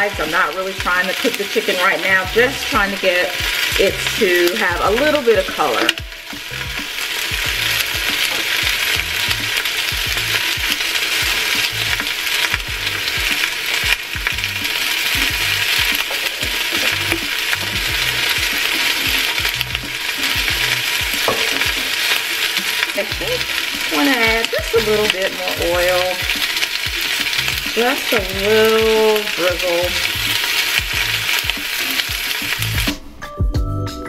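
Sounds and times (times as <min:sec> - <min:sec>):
chicken sizzling in hot oil: 0:00.0 - 0:33.2.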